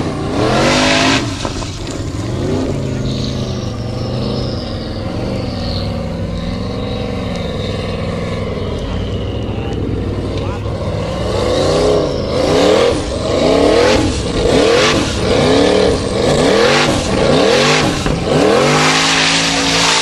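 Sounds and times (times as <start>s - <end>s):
buggy engine revving hard: 0.0s - 20.0s.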